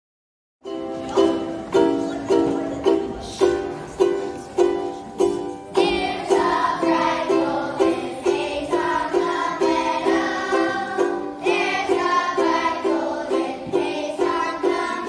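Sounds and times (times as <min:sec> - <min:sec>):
strummed string chords: 0:00.6 - 0:15.0
children singing together: 0:00.9 - 0:15.0.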